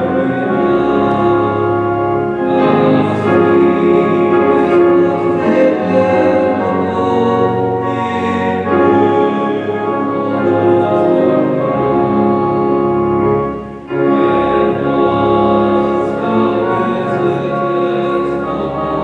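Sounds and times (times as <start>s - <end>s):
instrumental accompaniment: 0.0s - 19.0s
voices singing a hymn: 0.0s - 19.0s.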